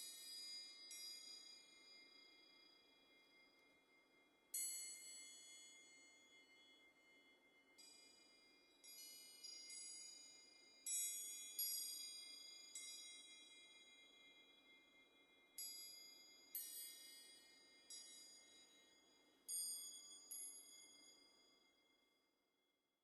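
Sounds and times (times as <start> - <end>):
faint high-pitched chime tones: 0.0 - 22.8.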